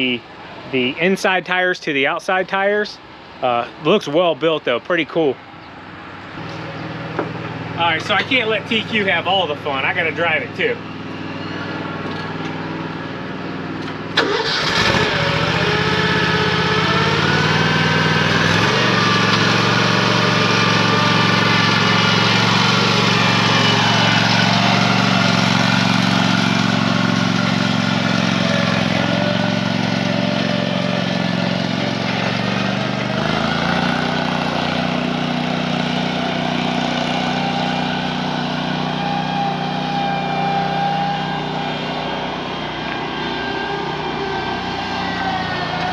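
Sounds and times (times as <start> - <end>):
riding lawn mower engine running: 5.4 - 45.9.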